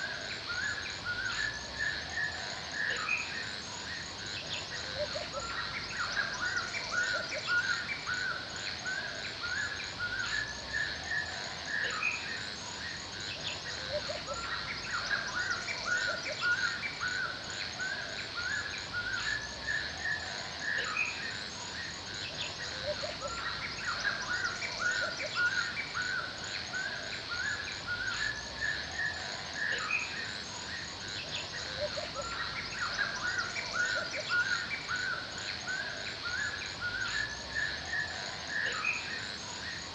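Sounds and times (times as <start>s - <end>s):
birds chirping: 0.0s - 39.9s
high insect drone: 0.0s - 39.9s.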